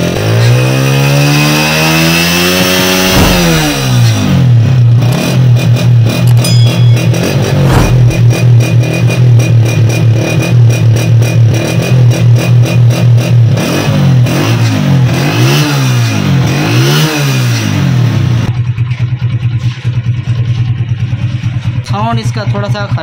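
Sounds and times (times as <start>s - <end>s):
motorcycle engine revving and idling: 0.0s - 23.0s.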